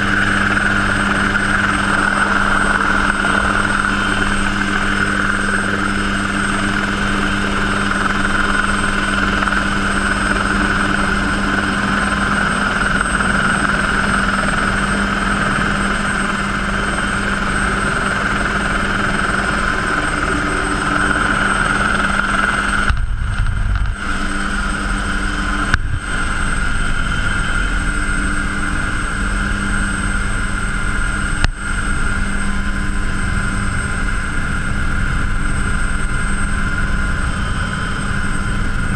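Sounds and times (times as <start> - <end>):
helicopter turbine and rotor whine: 0.0 - 38.9.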